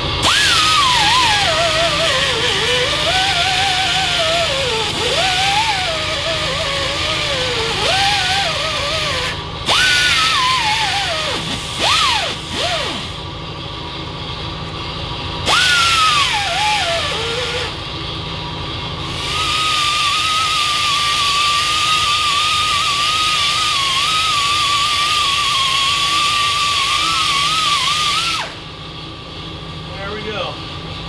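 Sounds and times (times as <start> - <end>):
pneumatic air grinder whining: 0.0 - 13.7, 14.7 - 18.2, 18.8 - 28.8.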